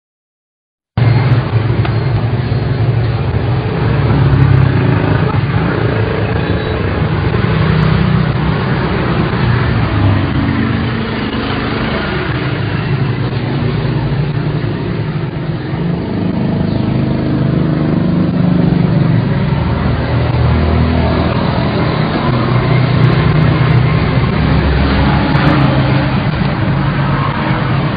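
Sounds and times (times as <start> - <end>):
road traffic passing: 1.0 - 27.9.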